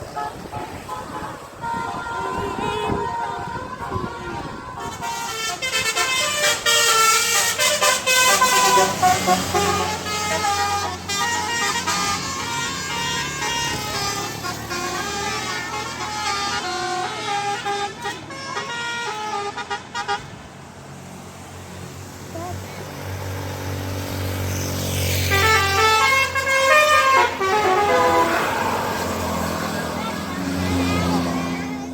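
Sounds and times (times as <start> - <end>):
multi-tone musical air horn: 0.1 - 20.4, 25.2 - 31.8.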